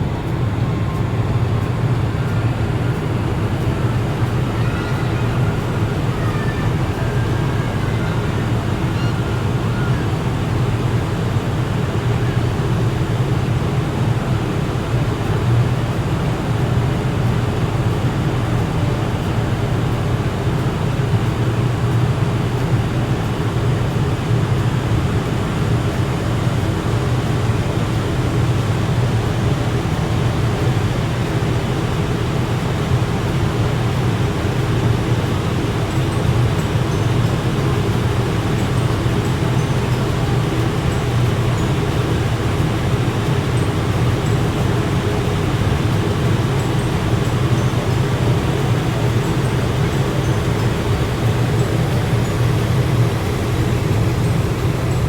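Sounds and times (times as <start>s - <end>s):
rushing water wash: 0.0s - 55.0s
ship engines droning: 0.0s - 55.0s.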